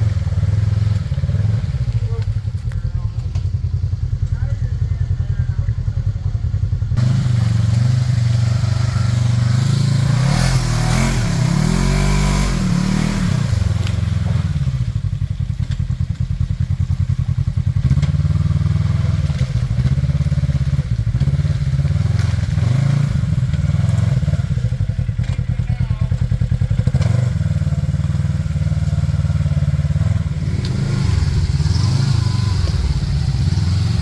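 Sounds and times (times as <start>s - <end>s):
utility vehicle engine running: 0.0s - 34.0s.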